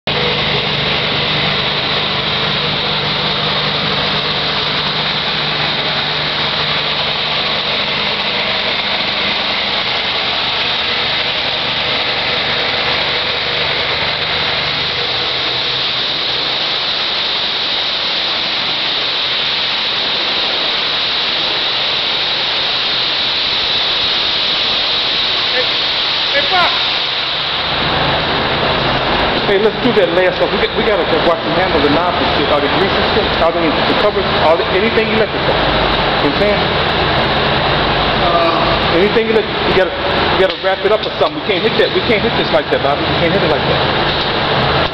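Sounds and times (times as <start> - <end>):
pressure washer engine hum: 0.0 - 44.9
high-pressure spray hissing: 0.1 - 44.9.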